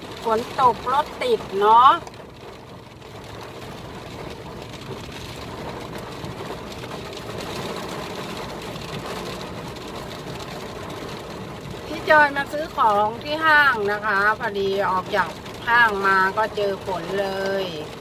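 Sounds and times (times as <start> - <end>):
heavy rain on car roof: 0.0 - 18.0.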